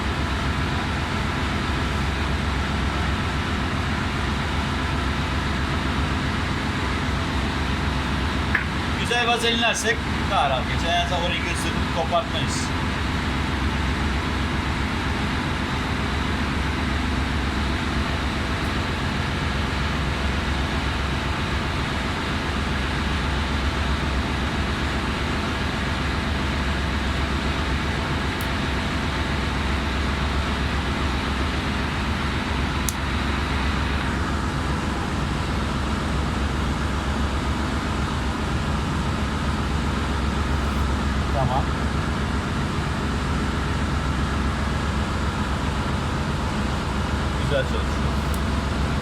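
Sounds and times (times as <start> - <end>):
engine-room machinery drone: 0.0 - 49.0.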